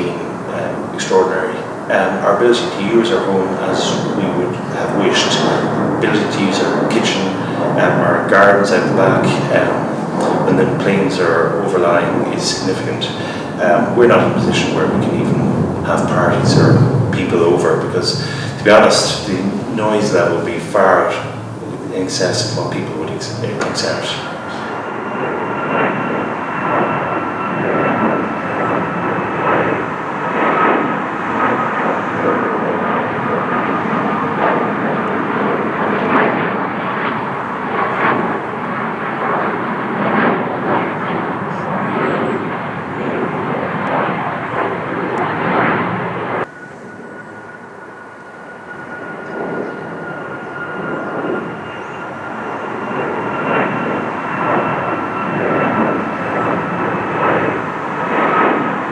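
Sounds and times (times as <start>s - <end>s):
jet airliner flying overhead: 0.0s - 58.9s.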